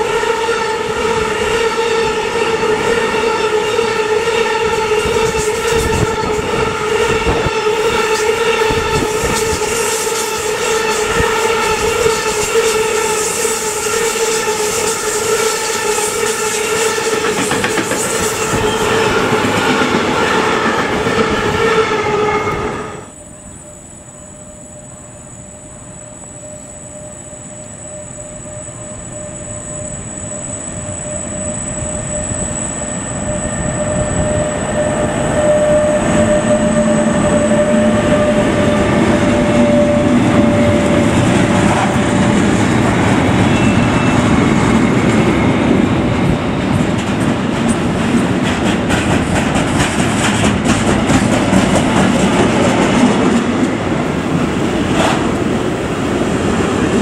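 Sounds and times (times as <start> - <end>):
freight train rumbling past: 0.0 - 57.0
locomotive high whine: 0.0 - 57.0.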